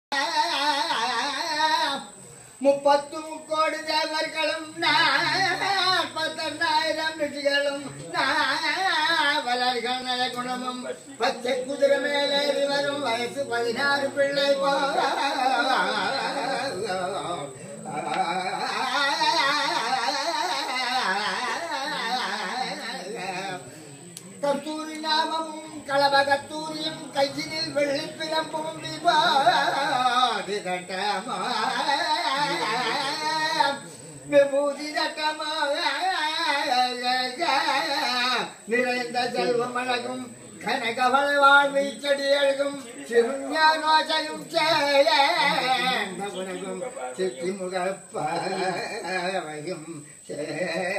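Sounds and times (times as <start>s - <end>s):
man singing unaccompanied: 0.1s - 50.9s.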